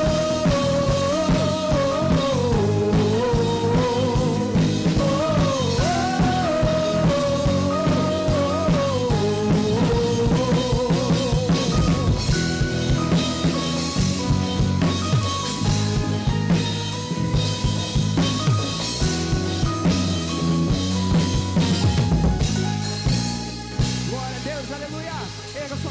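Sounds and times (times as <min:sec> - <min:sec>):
wavering lead melody: 0:00.0 - 0:24.8
rock band playing: 0:00.0 - 0:25.9.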